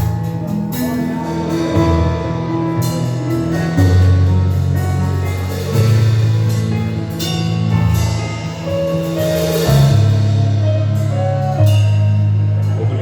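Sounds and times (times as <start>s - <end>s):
drum kit: 0.0s - 13.0s
instrumental band music: 0.0s - 13.0s
low bass notes: 0.0s - 13.0s.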